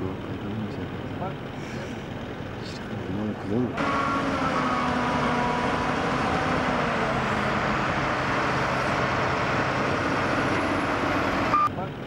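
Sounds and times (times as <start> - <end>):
wheel loader diesel engine: 0.0 - 12.0.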